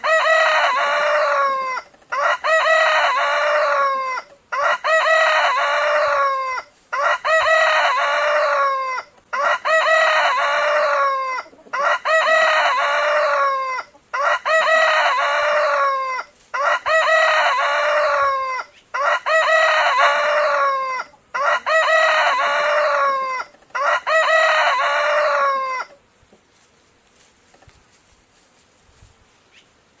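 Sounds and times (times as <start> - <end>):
rooster crowing: 0.0 - 26.0.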